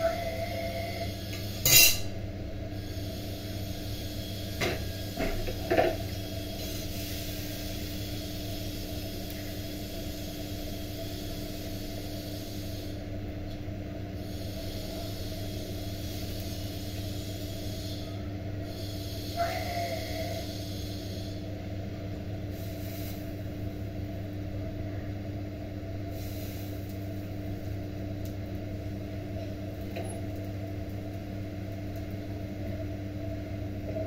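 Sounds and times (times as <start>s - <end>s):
low hum with hiss: 0.0s - 34.0s.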